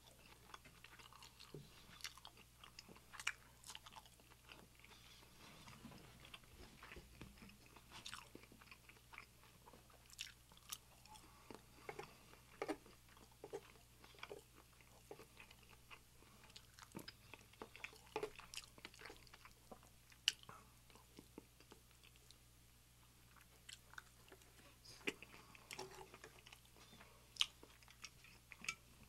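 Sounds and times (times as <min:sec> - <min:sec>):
close chewing and biting: 0:00.0 - 0:22.4, 0:23.2 - 0:28.8.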